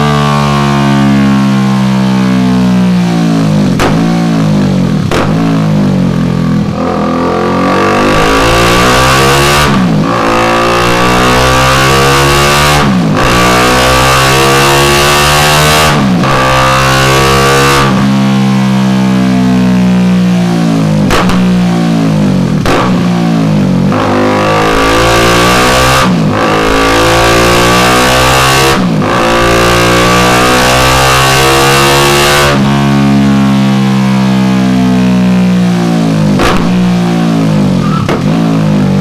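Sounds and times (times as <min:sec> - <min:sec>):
motorcycle engine revving hard: 0:00.0 - 0:39.0.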